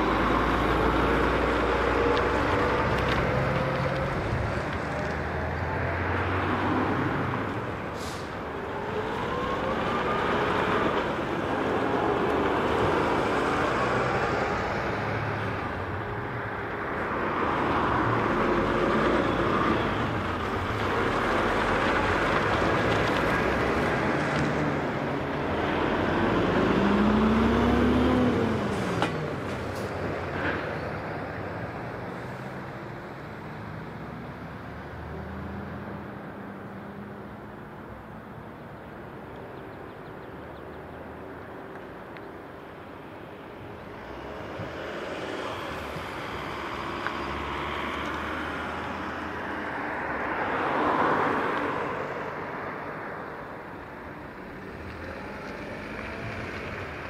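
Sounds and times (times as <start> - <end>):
heavy trucks driving past: 0.0 - 39.3, 40.1 - 57.0.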